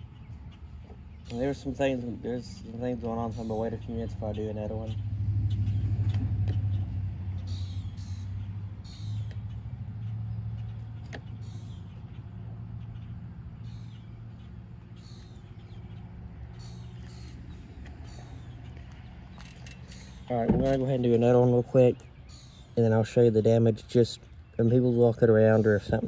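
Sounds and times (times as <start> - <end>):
low vehicle rumble: 0.0 - 26.0.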